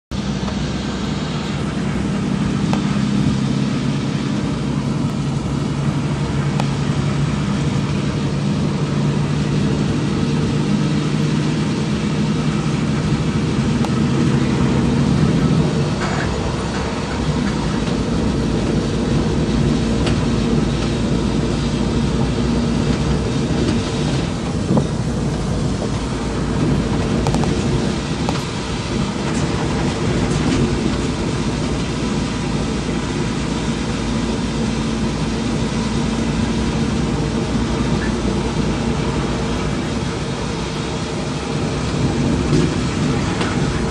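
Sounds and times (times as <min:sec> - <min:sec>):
torrential rain roar: 0:00.1 - 0:43.9.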